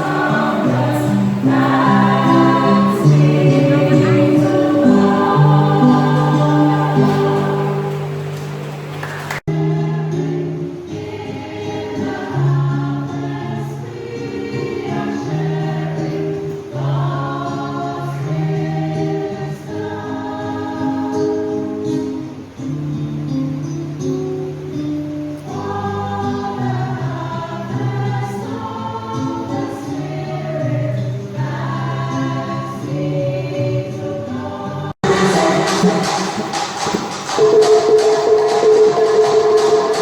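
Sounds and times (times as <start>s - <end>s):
choir singing a hymn: 0.0s - 22.0s, 25.4s - 40.0s.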